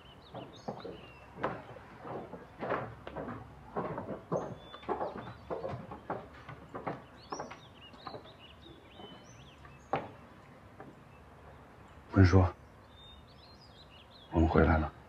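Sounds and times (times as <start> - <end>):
footsteps on wooden deck: 0.0 - 15.0
small birds chirping: 0.0 - 15.0.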